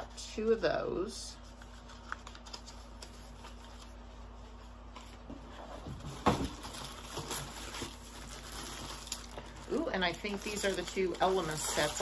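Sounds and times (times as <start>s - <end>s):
low steady hum: 0.0s - 12.0s
packaging rustling: 1.6s - 12.0s.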